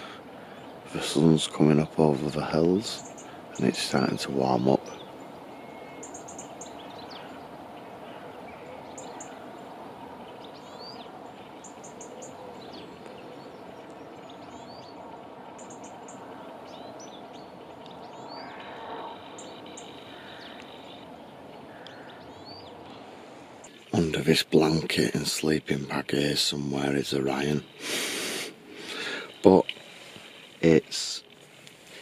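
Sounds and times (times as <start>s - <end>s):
songbirds chirping and whistling: 0.0s - 32.0s.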